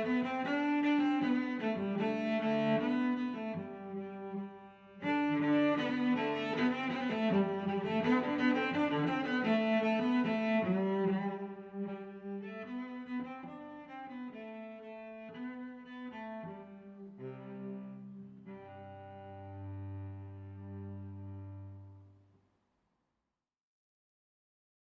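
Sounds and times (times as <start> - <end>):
bowed strings with cello: 0.0 - 22.2.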